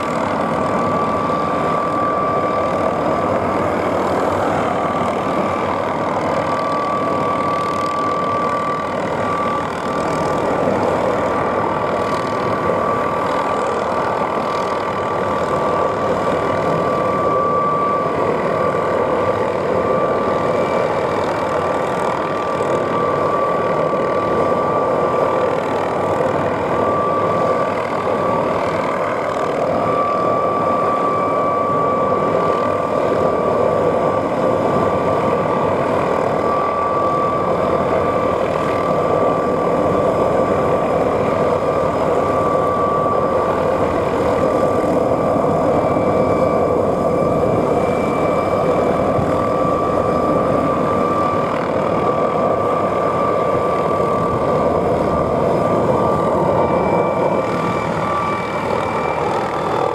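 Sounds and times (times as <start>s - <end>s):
helicopter engine and rotor noise: 0.0s - 59.9s
helicopter turbine whine: 0.0s - 59.9s.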